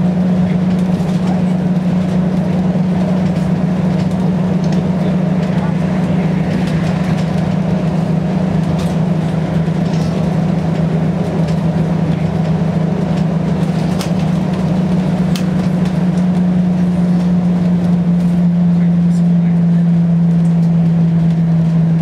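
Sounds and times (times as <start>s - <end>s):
bus diesel engine drone: 0.0s - 22.0s
tyre and road noise: 0.0s - 22.0s.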